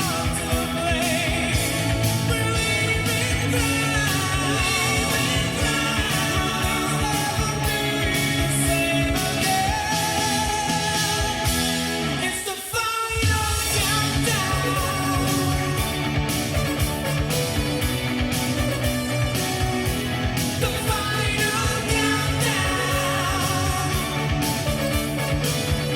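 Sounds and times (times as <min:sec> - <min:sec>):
song with singing on car speakers: 0:00.0 - 0:25.9.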